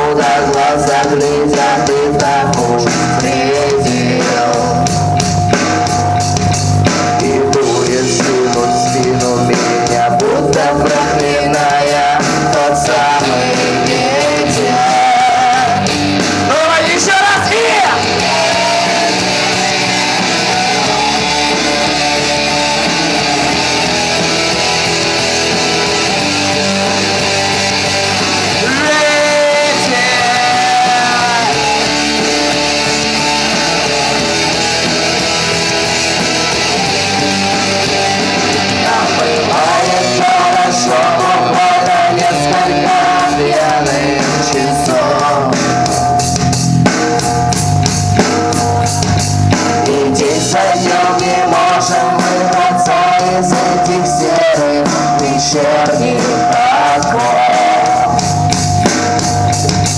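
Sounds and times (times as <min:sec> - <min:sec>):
lead guitar with bent notes: 0:00.0 - 0:59.9
rock band rhythm section: 0:00.0 - 0:59.9.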